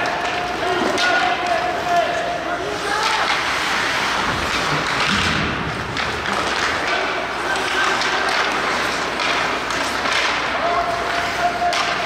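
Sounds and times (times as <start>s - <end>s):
sticks and puck hitting boards: 0.0s - 12.0s.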